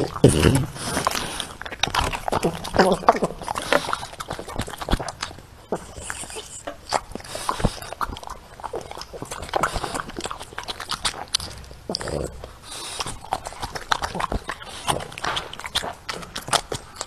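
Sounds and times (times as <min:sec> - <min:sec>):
dog chewing wetly: 0:00.0 - 0:17.0.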